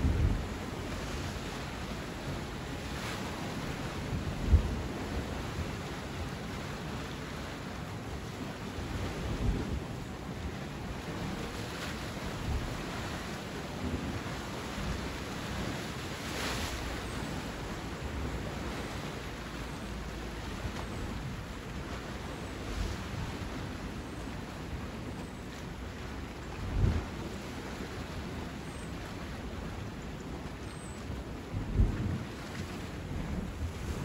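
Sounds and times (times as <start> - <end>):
sea surf washing: 0.0 - 34.0
wind rumble on microphone: 0.0 - 34.0.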